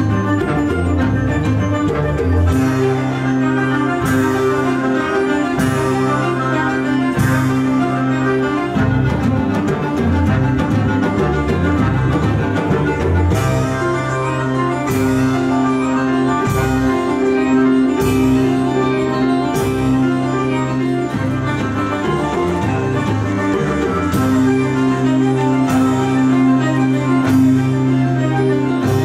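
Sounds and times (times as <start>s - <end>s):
held bass notes: 0.0s - 29.0s
percussion hits: 0.0s - 29.0s
sustained keyboard chords: 0.0s - 29.0s.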